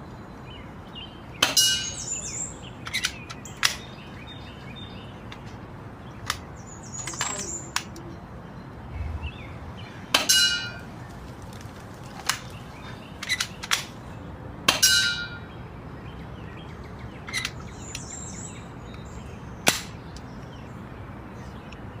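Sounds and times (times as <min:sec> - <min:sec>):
birds chirping: 0:00.0 - 0:14.5, 0:15.3 - 0:22.0.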